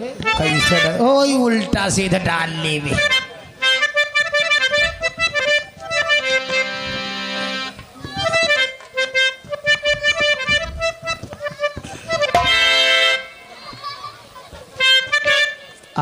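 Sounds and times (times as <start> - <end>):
harmonium melody: 0.0 - 16.0
drum beats: 0.2 - 16.0.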